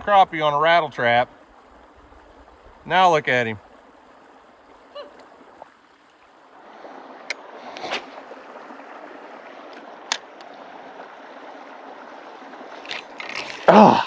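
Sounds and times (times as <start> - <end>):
open-air background hiss: 0.0 - 14.0.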